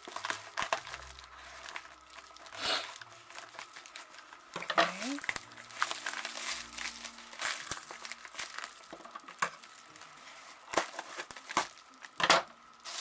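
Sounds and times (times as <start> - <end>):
wrapping crinkling: 0.0 - 13.0.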